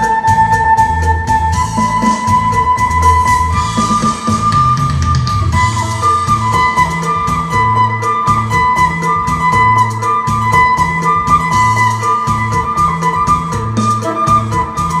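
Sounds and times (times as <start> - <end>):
backing track with steady beat: 0.0 - 15.0
plucked lute: 0.0 - 15.0
repeating bass line: 0.0 - 15.0.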